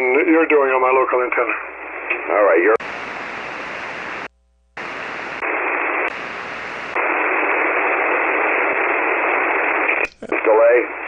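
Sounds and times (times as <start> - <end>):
radio band noise hiss: 0.0 - 11.0.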